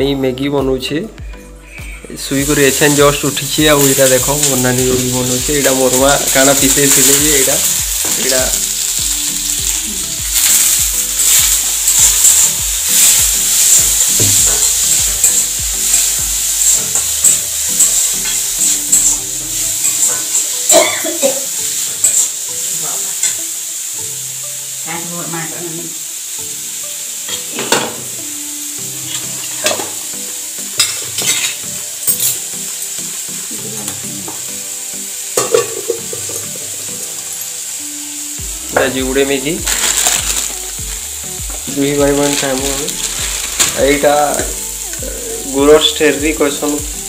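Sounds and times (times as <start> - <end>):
food sizzling in hot oil: 0.7 - 47.0.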